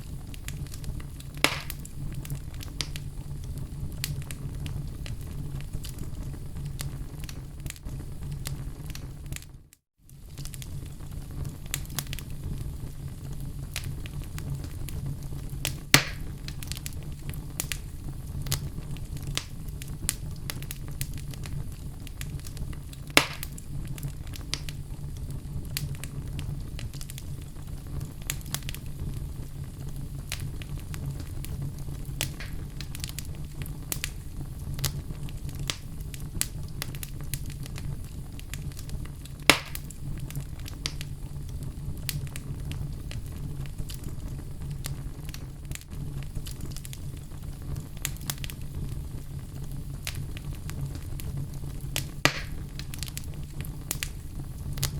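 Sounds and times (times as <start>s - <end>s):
fire crackling: 0.0s - 54.9s
loud fire pops: 0.0s - 54.9s
low rumble of fire: 0.0s - 54.9s.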